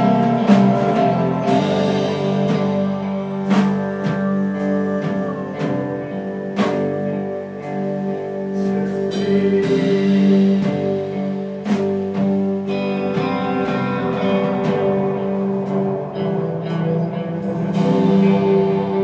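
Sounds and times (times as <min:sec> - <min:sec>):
drum and cymbal hits: 0:00.0 - 0:19.0.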